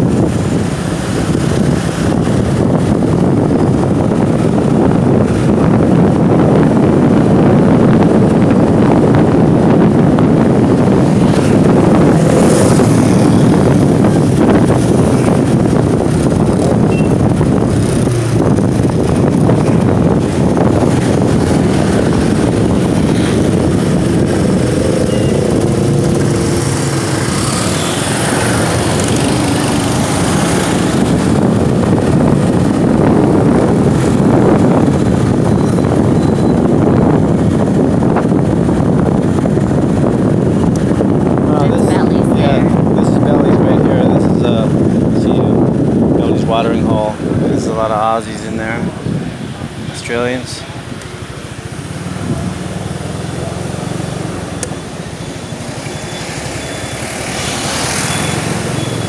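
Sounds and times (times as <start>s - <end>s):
motorbike engine and road noise: 0.0s - 59.0s
wind rushing over microphone: 0.0s - 59.0s.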